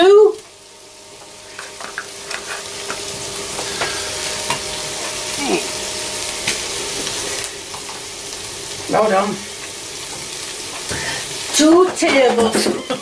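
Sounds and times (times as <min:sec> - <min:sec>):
meat and onions sizzling in a pan: 0:00.0 - 0:13.0.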